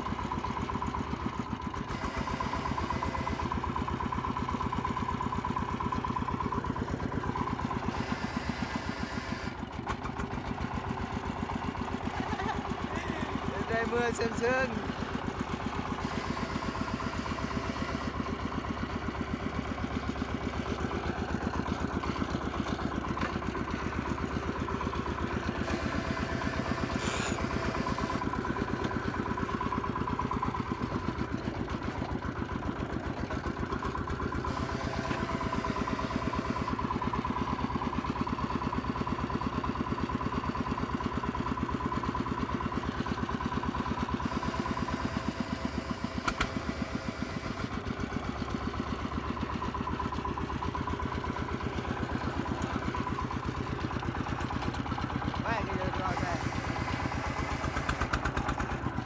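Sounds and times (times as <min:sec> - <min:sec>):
farm vehicle engine chugging: 0:00.0 - 0:59.0.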